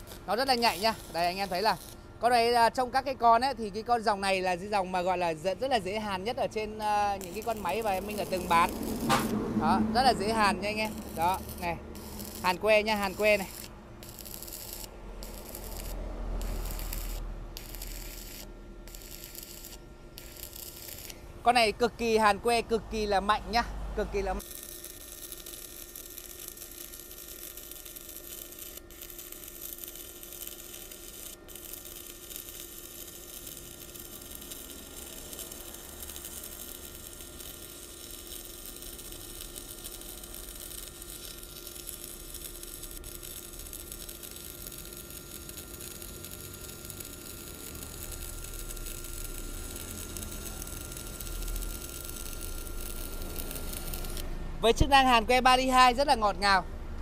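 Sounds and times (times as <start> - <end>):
welding arc crackling: 0.0 - 23.3, 24.4 - 56.2
faint hum: 0.0 - 54.6.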